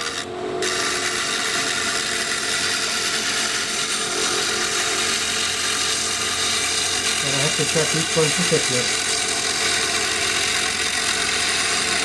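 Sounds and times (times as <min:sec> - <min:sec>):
chisel scraping spinning wood: 0:00.0 - 0:12.0
lathe humming: 0:00.0 - 0:12.0.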